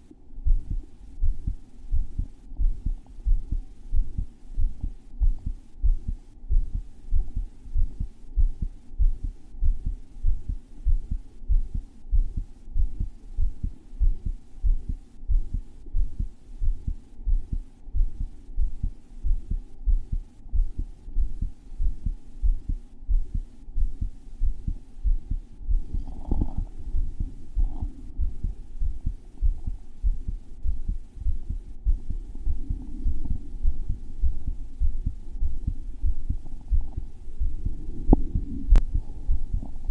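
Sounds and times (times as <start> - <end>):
heart beating: 0.4 - 39.9.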